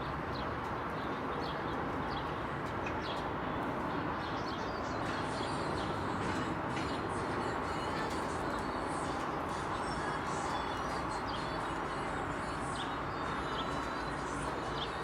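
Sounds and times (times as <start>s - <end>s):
small birds chirping: 0.0s - 15.0s
steady background noise: 0.0s - 15.0s.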